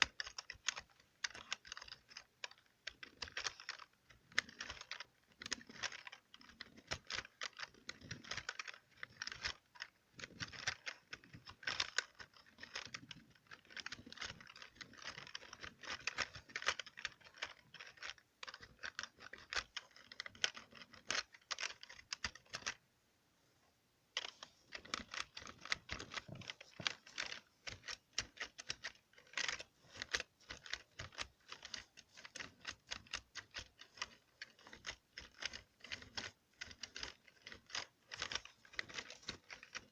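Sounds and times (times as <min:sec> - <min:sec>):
computer keyboard typing: 0:00.0 - 0:22.8, 0:24.2 - 0:39.9.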